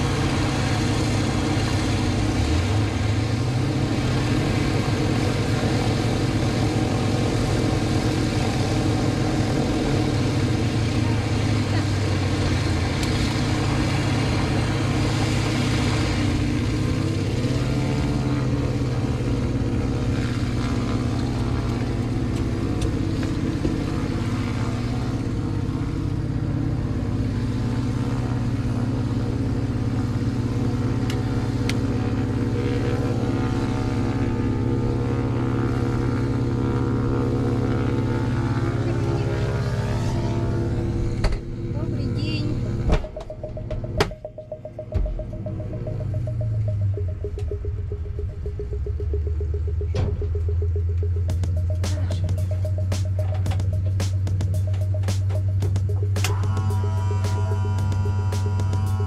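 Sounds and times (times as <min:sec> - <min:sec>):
aircraft piston engine running: 0:00.0 - 0:59.0.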